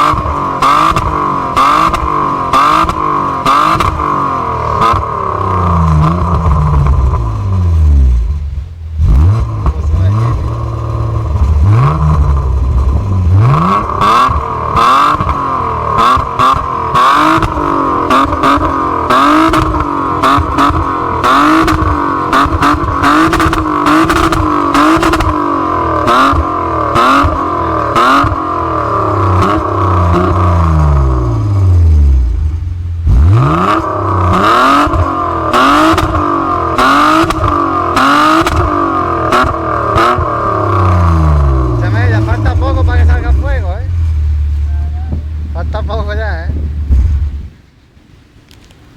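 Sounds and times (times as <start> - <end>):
car engine revving: 0.0 - 47.7
exhaust crackles: 0.0 - 48.9.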